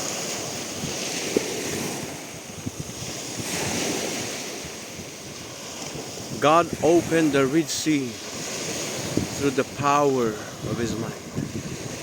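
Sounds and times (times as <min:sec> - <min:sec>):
sea waves washing in: 0:00.0 - 0:12.0.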